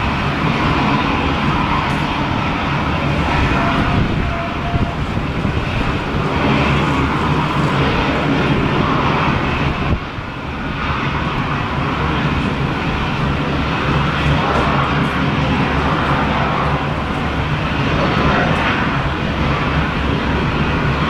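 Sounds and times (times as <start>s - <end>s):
airplane engine rumble: 0.0s - 21.0s.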